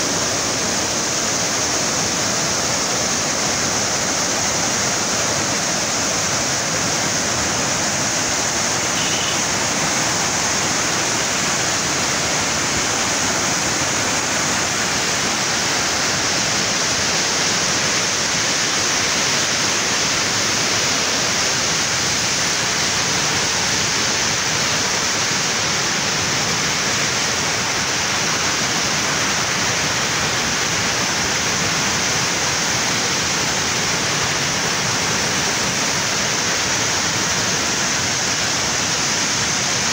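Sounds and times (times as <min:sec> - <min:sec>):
river torrent rushing: 0:00.0 - 0:39.9.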